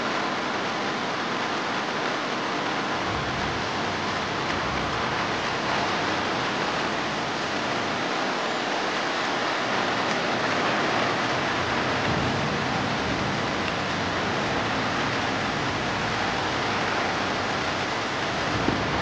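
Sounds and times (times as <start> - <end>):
heavy rain on a wet road: 0.0 - 19.0.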